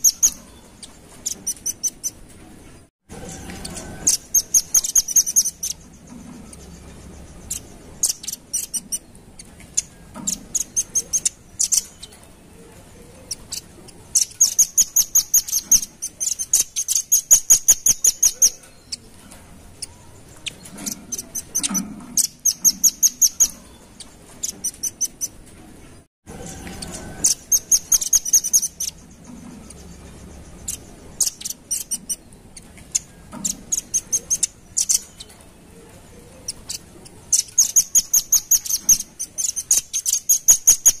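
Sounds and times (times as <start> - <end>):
bird chipping calls: 0.0 - 2.2, 3.2 - 12.2, 13.2 - 25.4, 26.4 - 41.0.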